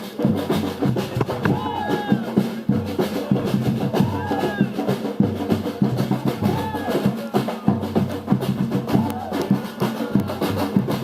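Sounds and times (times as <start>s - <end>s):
samba percussion band: 0.0s - 11.0s.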